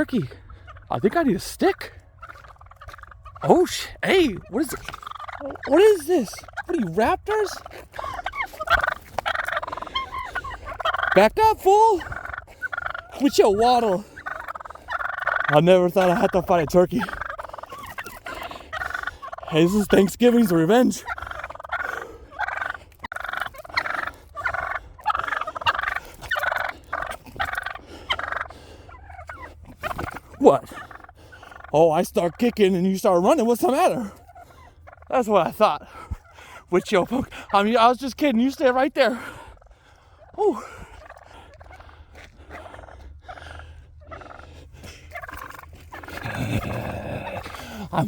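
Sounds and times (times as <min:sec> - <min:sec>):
turkeys gobbling: 0:00.0 - 0:48.0.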